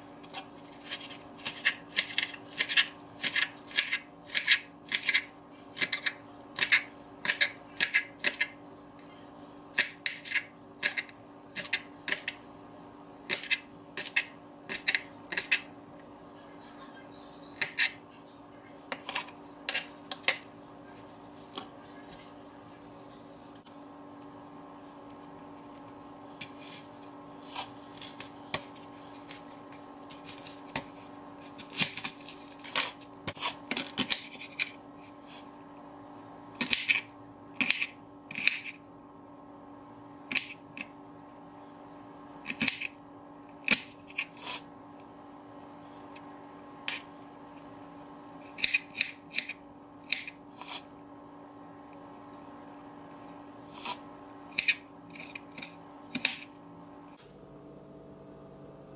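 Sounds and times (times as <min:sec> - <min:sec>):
steady background hum: 0:00.0 - 0:58.9.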